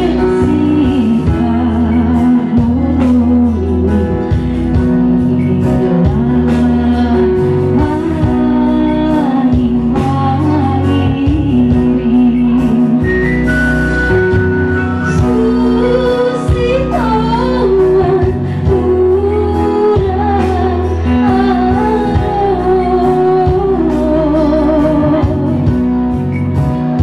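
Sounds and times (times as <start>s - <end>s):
electronic keyboard with bass line: 0.0s - 27.0s
woman singing into microphone: 0.0s - 27.0s.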